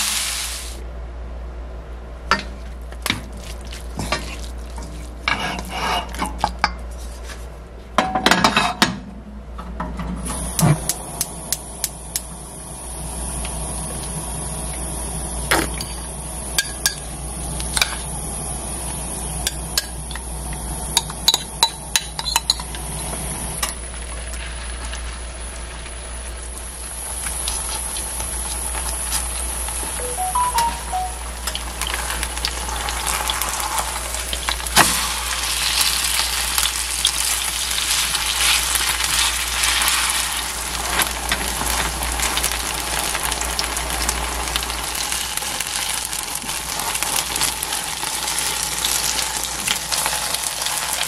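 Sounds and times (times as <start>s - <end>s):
hot oil sizzling: 0.0s - 0.8s, 10.2s - 51.0s.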